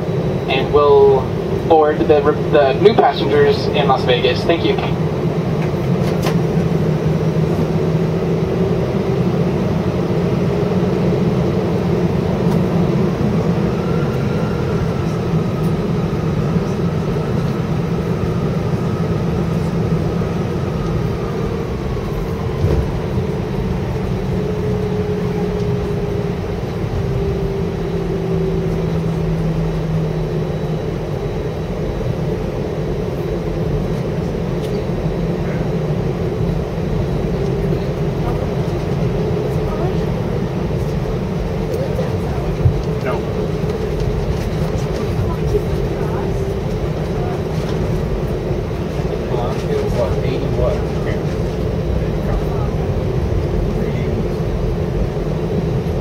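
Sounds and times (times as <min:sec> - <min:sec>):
jet engines idling in cabin: 0:00.0 - 0:56.0.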